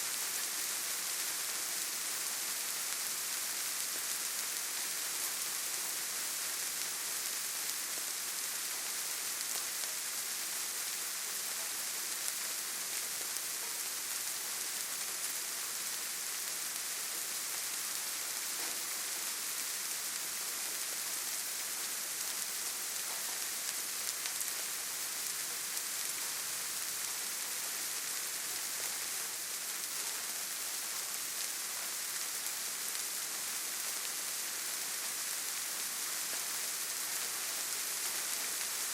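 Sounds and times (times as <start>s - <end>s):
gentle rain on leaves: 0.0s - 38.9s.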